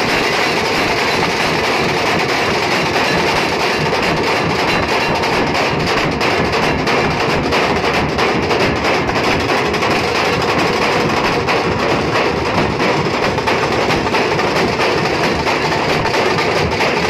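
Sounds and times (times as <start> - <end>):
barrel drums beaten with sticks: 0.0 - 17.0
fast snare drumming: 0.0 - 17.0.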